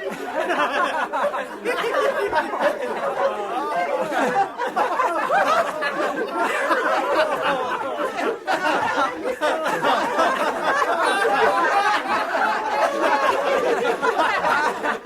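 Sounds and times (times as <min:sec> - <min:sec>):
men laughing: 0:00.0 - 0:15.0.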